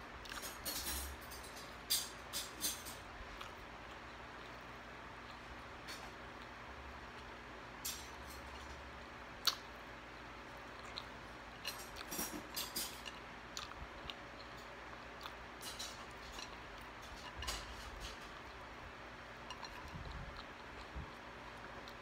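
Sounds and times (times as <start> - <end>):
chewing french fries: 0.1 - 22.0.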